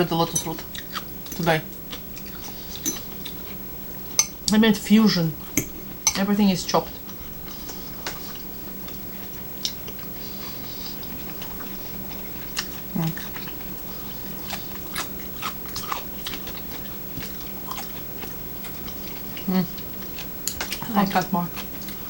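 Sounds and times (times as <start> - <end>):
close-up chewing with crisp crunches: 0.0 - 3.7, 6.9 - 22.0.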